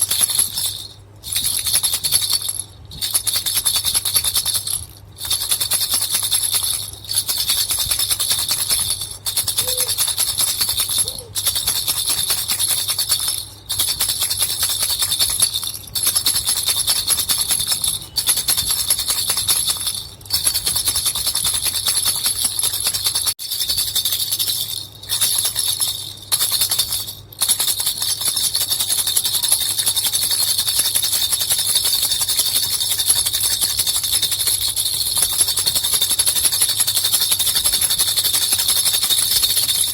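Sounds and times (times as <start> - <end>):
bell rattle jingling: 0.0 - 39.9.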